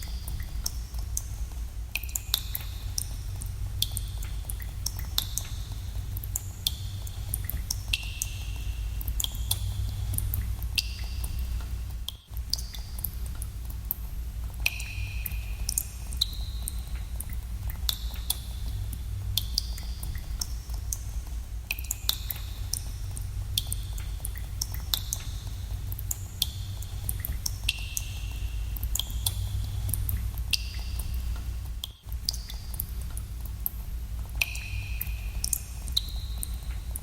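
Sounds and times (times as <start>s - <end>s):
steady low rumble: 0.0s - 37.0s
water drops plinking in cave: 0.0s - 37.0s.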